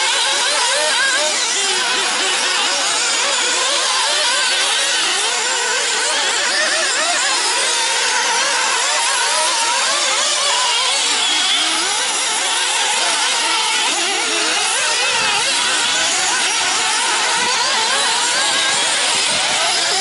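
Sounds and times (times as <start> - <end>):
rc car engines revving: 0.0 - 20.0.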